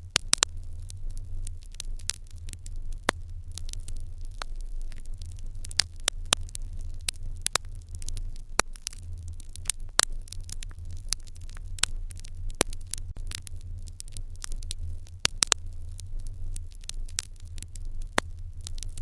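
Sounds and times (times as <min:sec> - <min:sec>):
hearth fire crackling: 0:00.0 - 0:19.0.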